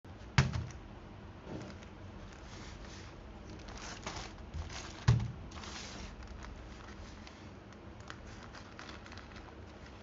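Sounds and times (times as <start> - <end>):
packaging rustling: 1.6 - 10.0.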